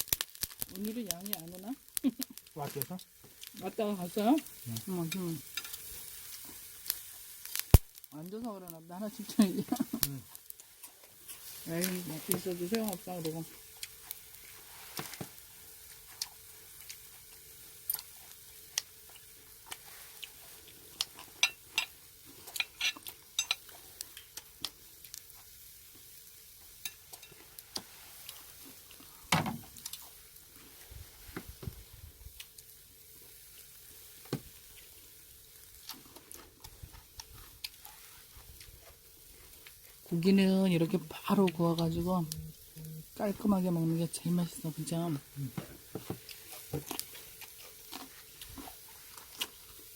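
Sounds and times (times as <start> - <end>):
meat sizzling over charcoal: 0.0 - 49.9.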